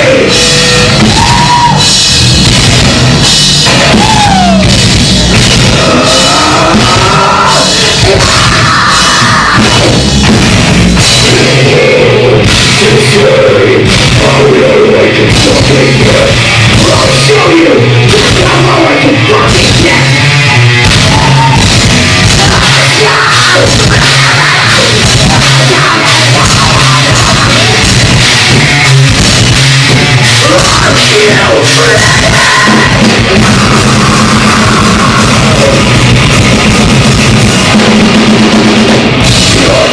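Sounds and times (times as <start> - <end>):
vocals: 0.0 - 2.1, 3.6 - 39.9
bass guitar: 0.0 - 39.9
distorted guitars: 0.0 - 39.9
drum kit hit rapidly: 0.0 - 39.9.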